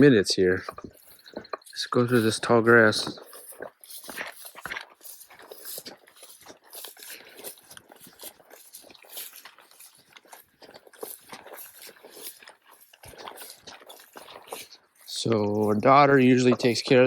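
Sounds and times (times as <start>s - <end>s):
footsteps through tall grass: 0.0s - 17.0s.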